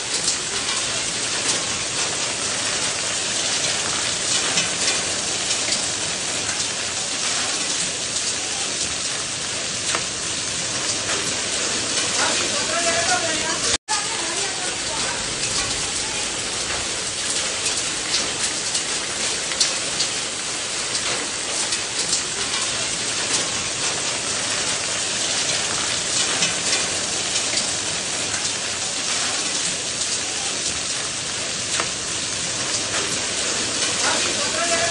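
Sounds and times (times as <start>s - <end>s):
heavy rain on roof tiles: 0.0s - 34.9s.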